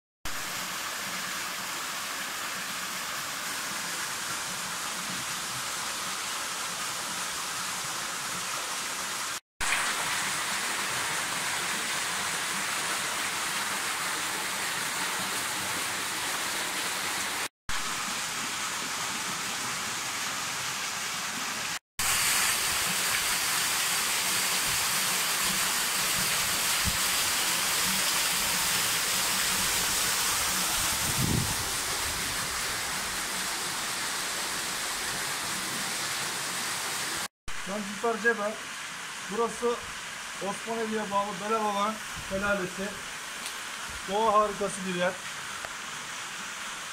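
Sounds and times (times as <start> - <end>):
waterfall splashing into pool: 0.3 - 46.9.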